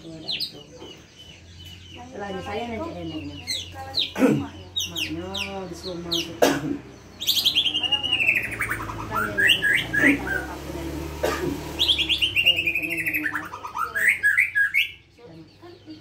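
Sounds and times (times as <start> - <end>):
bird trilling: 0.0 - 16.0.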